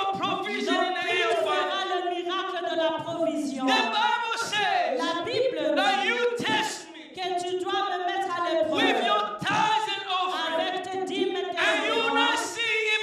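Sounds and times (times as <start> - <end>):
congregation singing: 0.0 - 13.0.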